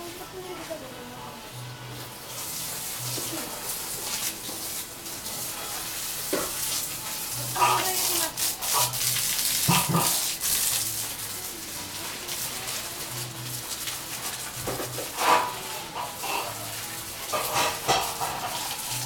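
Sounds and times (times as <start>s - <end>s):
hose water spraying on foliage: 0.0s - 19.0s.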